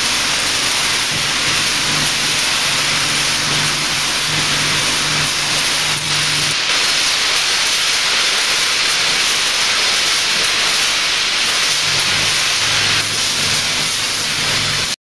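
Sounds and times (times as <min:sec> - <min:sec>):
weighing machine hissing rush: 0:00.0 - 0:15.0.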